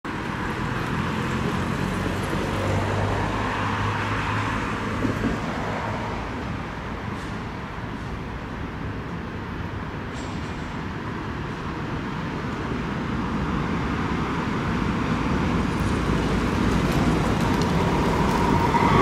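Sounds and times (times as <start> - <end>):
traffic noise: 0.0 - 19.0
tram running on track: 0.1 - 19.0.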